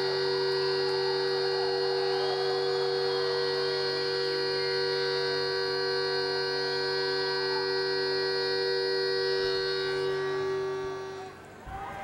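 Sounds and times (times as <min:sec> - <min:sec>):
electric guitar feedback drone: 0:00.0 - 0:11.7.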